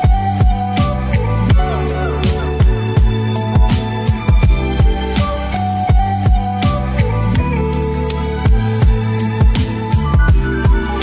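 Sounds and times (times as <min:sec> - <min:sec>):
music with deep thumping beat: 0:00.0 - 0:11.0.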